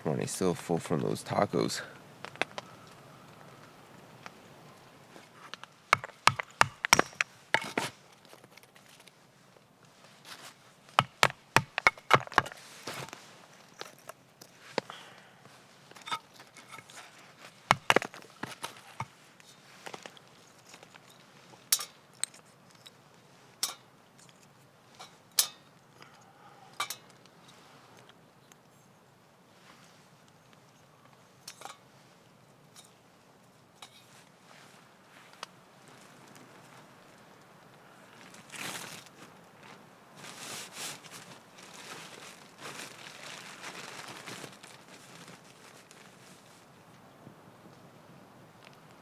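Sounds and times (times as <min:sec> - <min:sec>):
camping gear rustling and crinkling: 0:01.6 - 0:26.0, 0:27.0 - 0:49.0.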